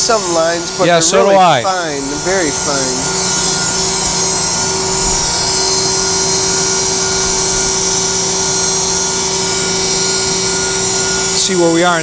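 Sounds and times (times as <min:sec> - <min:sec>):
constant hum tones: 0:00.0 - 0:12.0
grinding spindle high hiss: 0:00.0 - 0:12.0.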